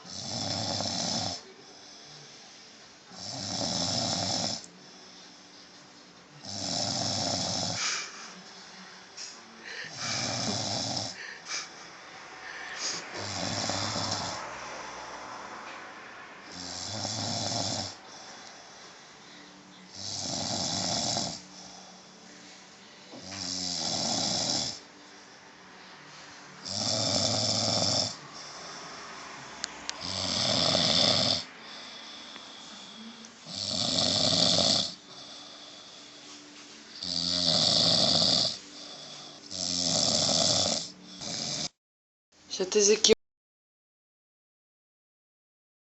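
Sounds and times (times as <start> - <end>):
woman snoring: 0.0 - 5.4, 6.4 - 8.5, 9.1 - 15.5, 16.4 - 22.3, 23.1 - 24.9, 26.6 - 41.8.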